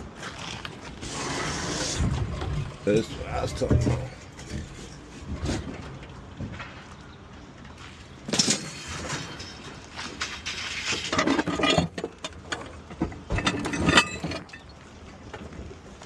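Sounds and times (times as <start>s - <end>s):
metal parts clanking and rattling: 0.4s - 6.9s, 8.2s - 14.8s.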